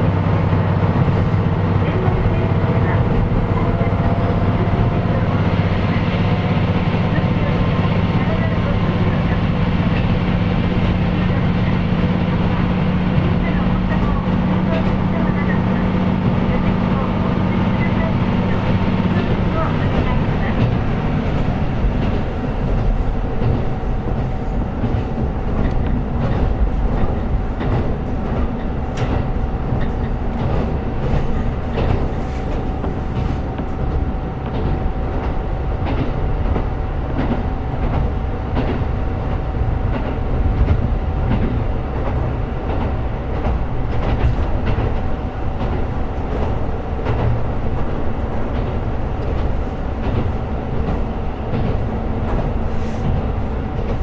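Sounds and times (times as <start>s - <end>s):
diesel railcar drone and whine: 0.0s - 54.0s
rail joint clicks: 0.0s - 54.0s.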